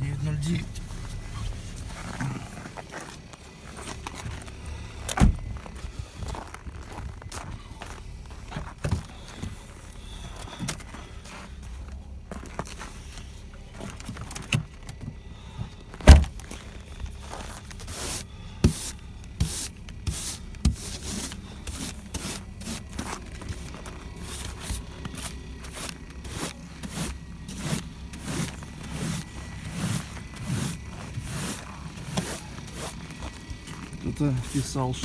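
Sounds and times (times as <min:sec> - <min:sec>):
car engine idling: 0:00.0 - 0:35.0
scraping snow and ice off car: 0:00.0 - 0:35.0.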